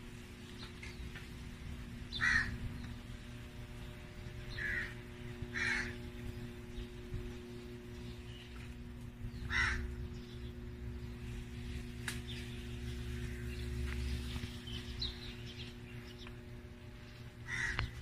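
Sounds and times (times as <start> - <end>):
low hum: 0.0 - 18.0
bird calling: 2.1 - 18.0.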